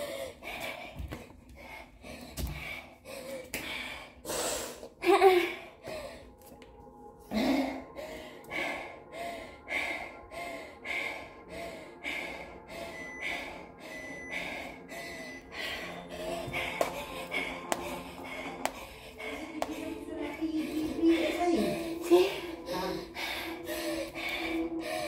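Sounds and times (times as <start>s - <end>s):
woman panting hard: 0.0s - 6.5s, 7.2s - 25.0s.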